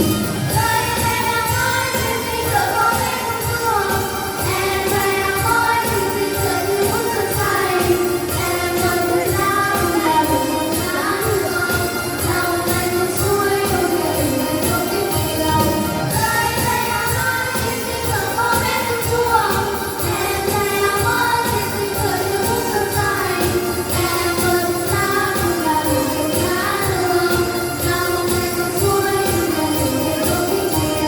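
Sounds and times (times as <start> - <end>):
instrumental backing with steady beat: 0.0 - 31.0
vocal group singing: 0.0 - 31.0.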